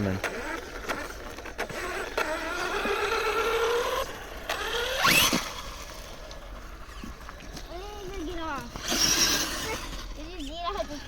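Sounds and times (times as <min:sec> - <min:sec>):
rc truck motor whining: 0:00.0 - 0:07.0, 0:07.7 - 0:11.0.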